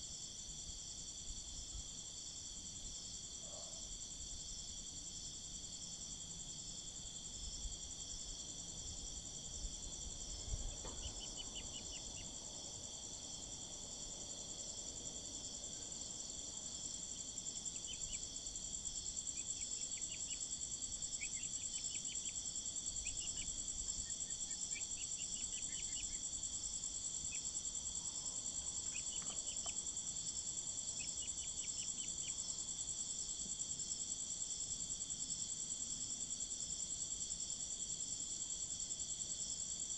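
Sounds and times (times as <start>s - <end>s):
insect chorus chirring: 0.0s - 39.9s.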